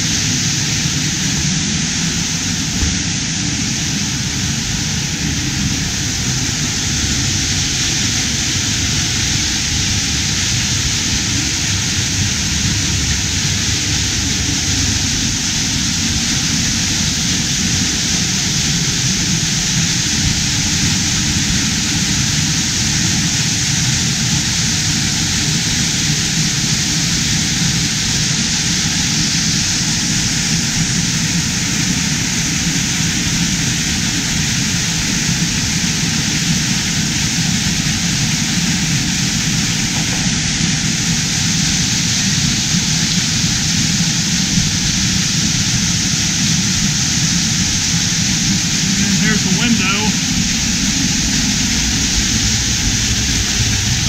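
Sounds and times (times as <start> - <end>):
waterfall rushing onto rock: 0.0 - 54.0.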